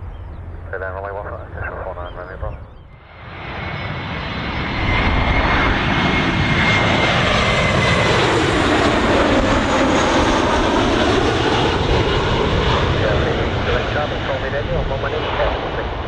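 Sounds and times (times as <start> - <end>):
jet engines roaring: 0.3 - 16.0.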